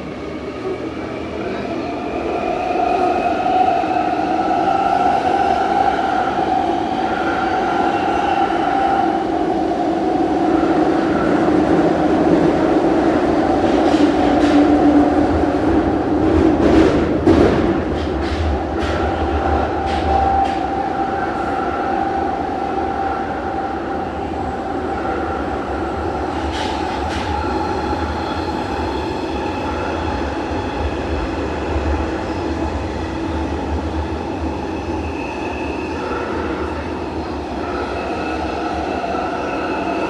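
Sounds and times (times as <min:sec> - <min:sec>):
train rumbling in tunnel: 0:00.0 - 0:40.0.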